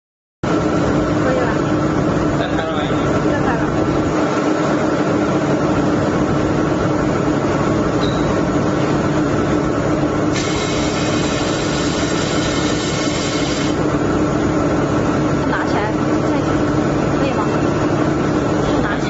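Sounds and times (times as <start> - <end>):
machine hum: 0.4 - 19.0.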